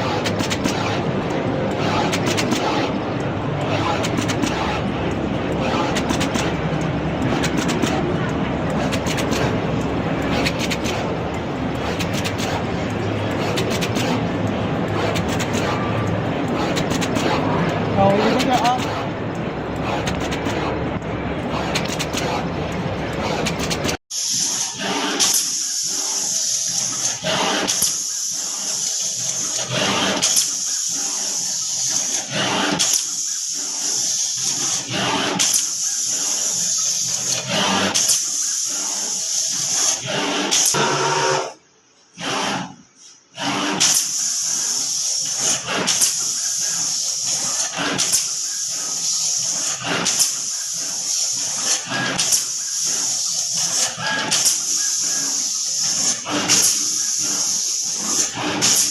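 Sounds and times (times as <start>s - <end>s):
machine air hiss: 0.0s - 58.9s
machine clicking: 0.0s - 58.9s.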